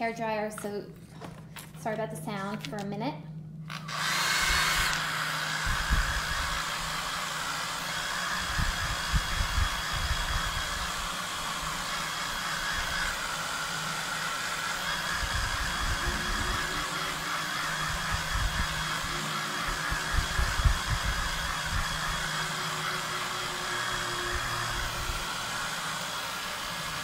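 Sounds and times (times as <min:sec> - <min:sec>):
hair dryer running: 0:03.7 - 0:27.0.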